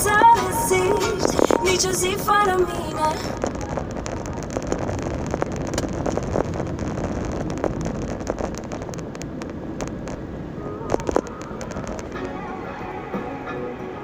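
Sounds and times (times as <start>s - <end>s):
car road and engine noise: 0.0s - 14.0s
wind rumble on microphone: 0.0s - 14.0s.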